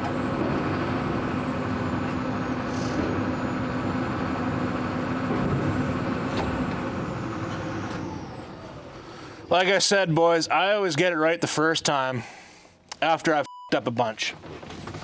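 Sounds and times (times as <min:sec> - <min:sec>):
excavator engine and hydraulics: 0:00.0 - 0:12.1.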